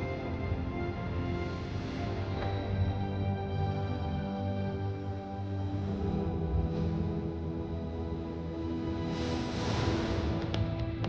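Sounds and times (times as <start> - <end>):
ambient music with held tones: 0.0 - 11.0
low bass pulse: 0.0 - 11.0.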